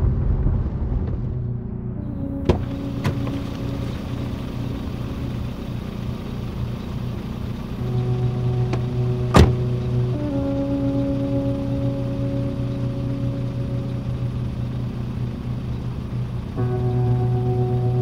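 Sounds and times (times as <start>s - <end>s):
car engine idling: 0.1s - 18.0s.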